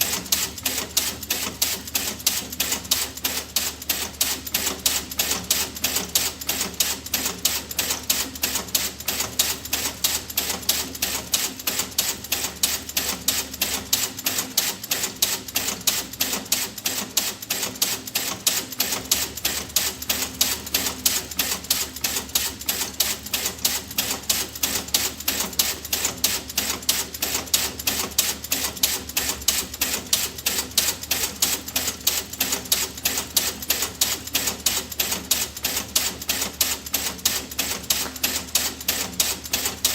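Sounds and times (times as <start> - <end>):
rapid sharp clicking: 0.0 - 39.9.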